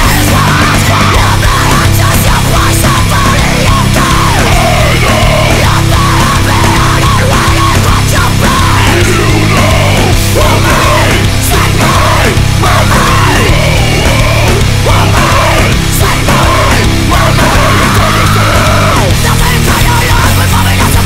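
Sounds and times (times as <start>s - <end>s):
heavy metal music: 0.0s - 21.0s.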